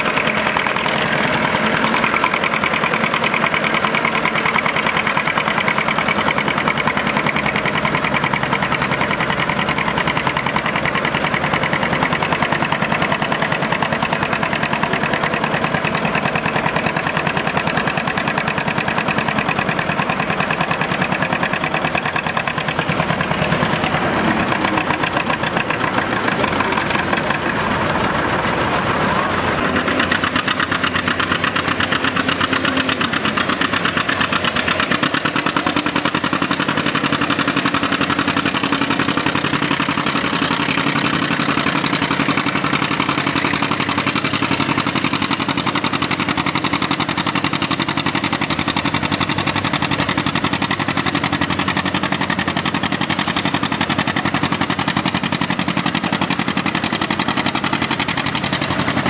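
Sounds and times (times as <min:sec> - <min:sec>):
tractor engines popping: 0:00.0 - 0:59.0.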